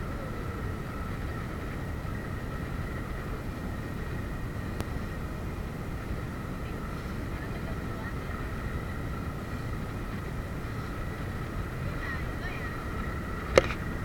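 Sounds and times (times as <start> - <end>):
boat engine rumbling: 0.0 - 14.0
faint steady whine: 0.0 - 14.0.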